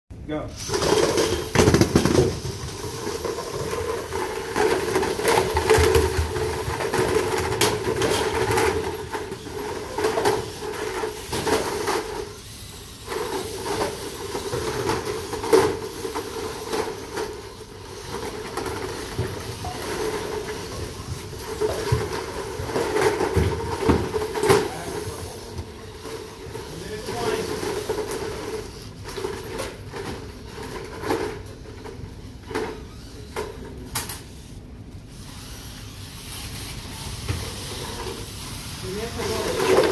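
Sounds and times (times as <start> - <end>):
electric motors whining: 0.6 - 29.1, 31.4 - 39.9.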